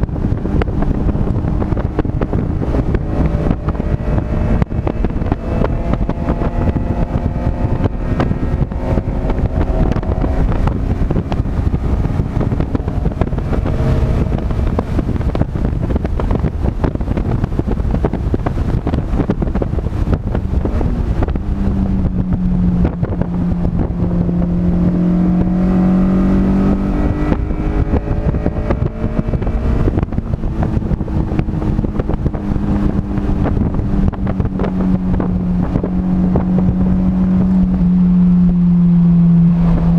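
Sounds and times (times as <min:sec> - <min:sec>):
steady low drone: 0:00.0 - 0:39.9
vehicle engine revving: 0:00.0 - 0:39.9
wind noise on microphone: 0:00.0 - 0:39.9.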